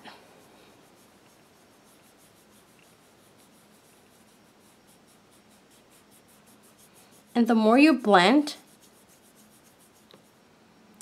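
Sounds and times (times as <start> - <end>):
sponge applicator rubbing on nail: 0.2 - 10.4.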